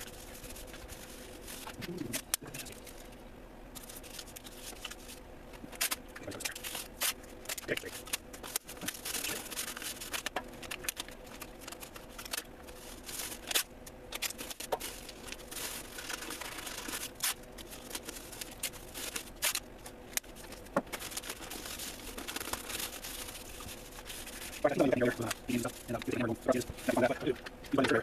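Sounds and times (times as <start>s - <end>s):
tape and paper crinkling: 0.0s - 28.0s.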